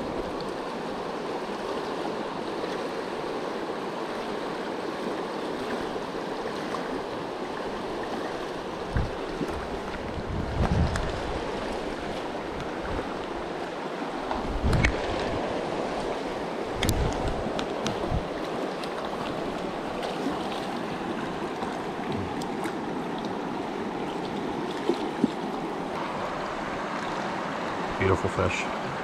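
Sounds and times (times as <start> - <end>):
fast-flowing river rushing: 0.0 - 29.0.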